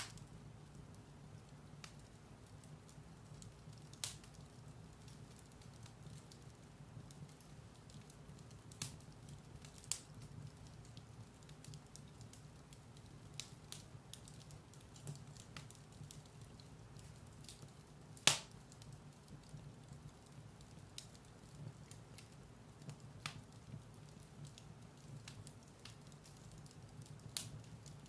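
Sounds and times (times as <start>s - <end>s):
firewood burning in fireplace: 0.0s - 28.0s.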